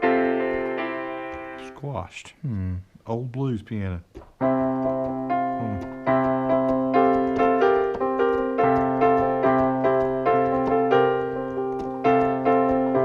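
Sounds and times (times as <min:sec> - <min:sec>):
bluesy piano chords: 0:00.0 - 0:01.9, 0:04.1 - 0:13.0.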